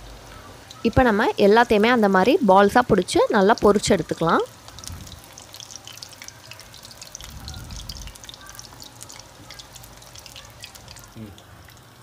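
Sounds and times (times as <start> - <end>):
dough balls deep-frying in oil: 0.0 - 12.0.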